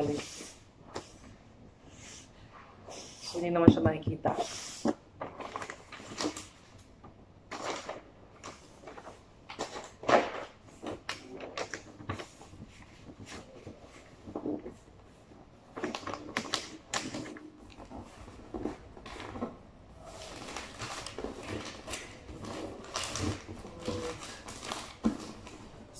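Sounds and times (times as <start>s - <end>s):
wrapping paper rustling: 4.4s - 25.9s.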